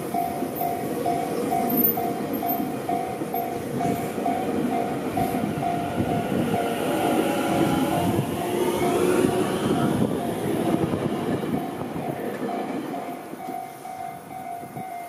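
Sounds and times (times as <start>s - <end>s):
level crossing warning bell: 0.0s - 15.0s
train wheels rumbling over rails: 0.0s - 15.0s.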